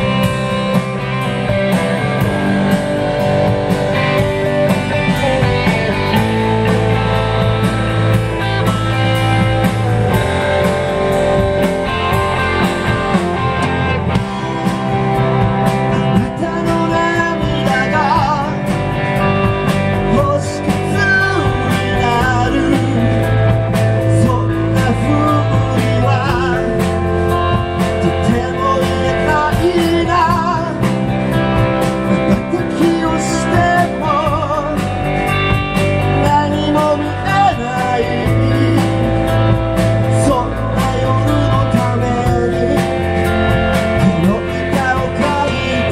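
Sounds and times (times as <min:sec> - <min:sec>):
rock band playing: 0:00.0 - 0:45.9.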